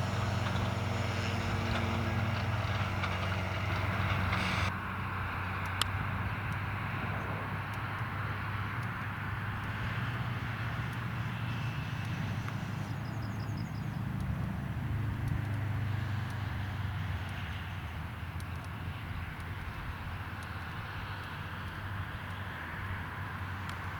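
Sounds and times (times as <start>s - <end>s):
tractor engine running under load: 0.0s - 23.9s.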